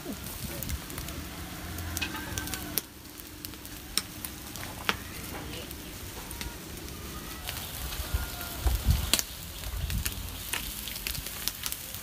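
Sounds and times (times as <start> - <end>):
low rumble: 0.0 - 11.2
meat sizzling over charcoal: 0.0 - 12.0.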